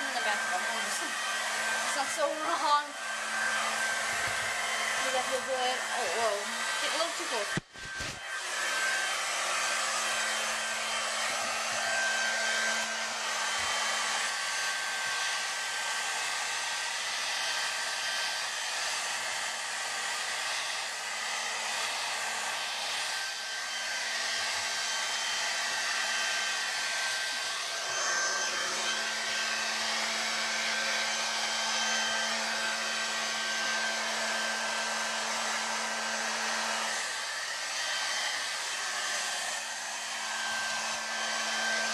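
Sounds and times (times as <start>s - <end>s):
hair dryer running: 0.0s - 41.9s.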